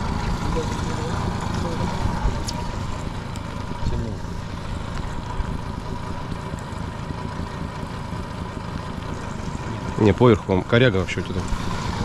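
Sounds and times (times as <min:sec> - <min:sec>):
outboard motor running: 0:00.0 - 0:12.0
wind: 0:00.0 - 0:12.0.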